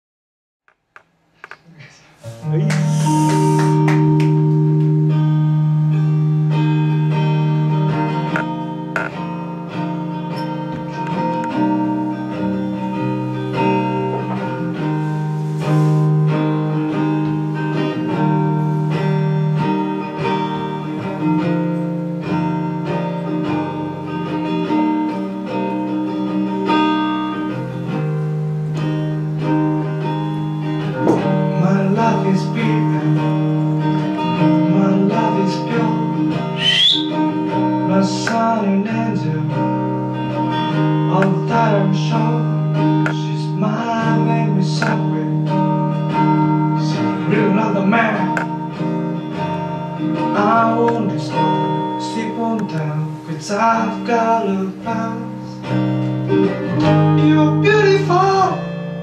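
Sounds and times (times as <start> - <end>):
acoustic guitar playing: 0.7 - 59.0.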